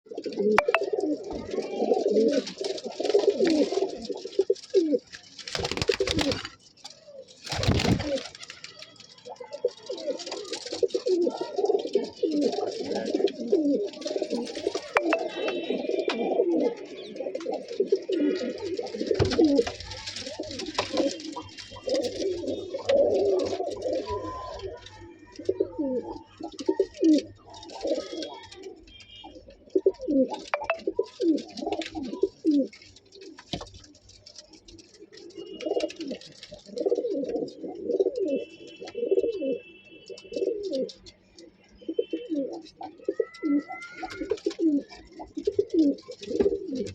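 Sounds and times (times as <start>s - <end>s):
pigeons cooing: 0.1s - 6.5s, 7.1s - 46.9s.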